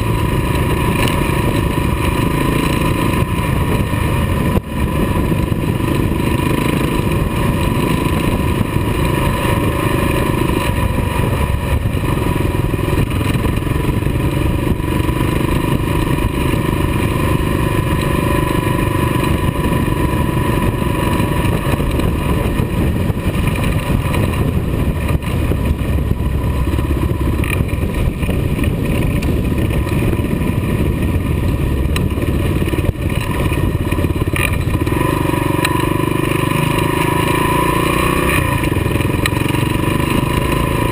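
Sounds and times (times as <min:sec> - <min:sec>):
motorcycle engine running: 0:00.0 - 0:40.9
tyres rumbling on gravel: 0:00.0 - 0:40.9
wind noise: 0:00.0 - 0:40.9.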